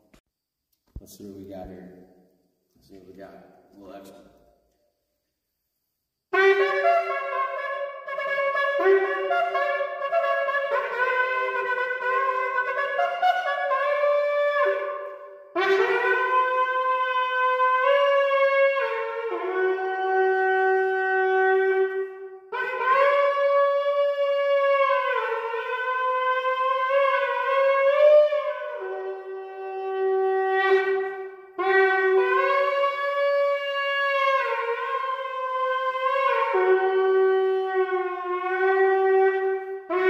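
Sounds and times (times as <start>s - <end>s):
shofar blasts: 6.3s - 40.0s.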